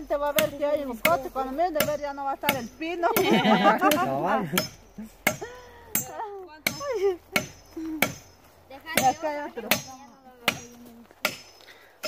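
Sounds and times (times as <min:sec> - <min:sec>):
machete chopping log: 0:00.4 - 0:08.3, 0:08.9 - 0:11.6.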